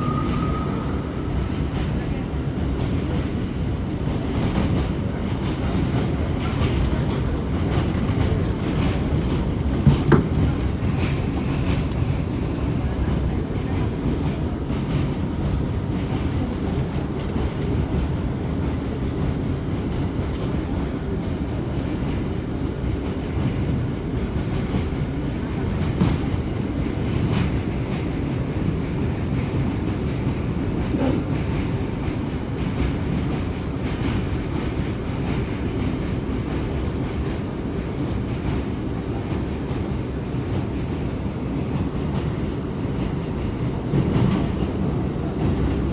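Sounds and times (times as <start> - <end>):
subway wheels rumbling on rails: 0.0 - 45.9.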